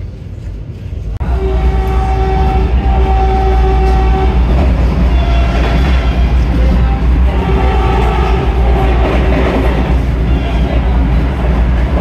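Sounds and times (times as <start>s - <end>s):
rattling track noise: 0.0s - 12.0s
train wheels rumbling on rail: 0.0s - 12.0s
train horn blasts: 1.2s - 11.1s.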